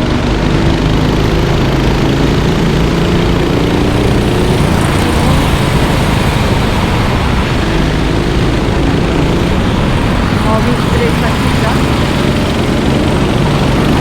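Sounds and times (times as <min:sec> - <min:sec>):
kart engines running: 0:00.0 - 0:14.0.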